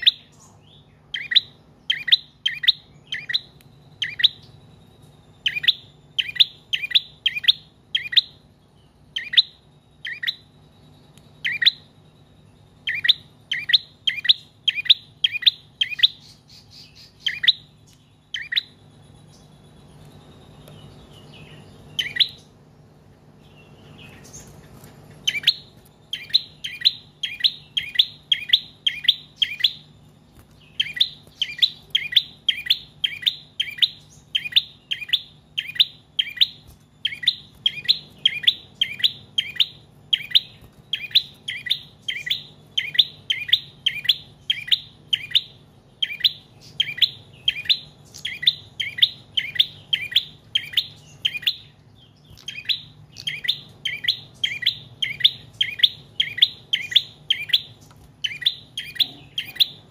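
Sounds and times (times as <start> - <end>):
bird chirping high and sharp: 0.0 - 22.6, 23.3 - 59.9.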